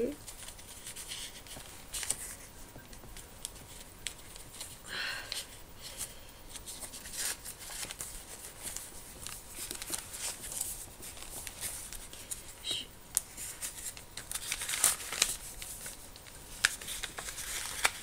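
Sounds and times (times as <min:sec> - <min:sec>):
paper pages rustling and flicking: 0:00.2 - 0:04.8, 0:05.4 - 0:18.0.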